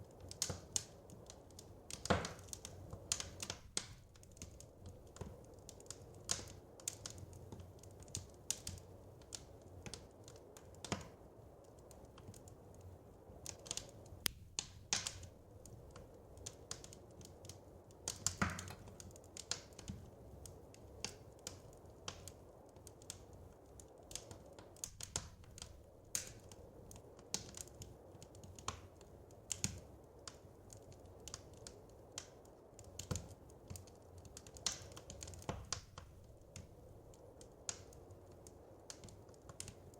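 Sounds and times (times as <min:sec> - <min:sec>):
low rumble of burning fire: 0:00.0 - 0:39.9
wood fire snaps and pops: 0:00.0 - 0:39.9.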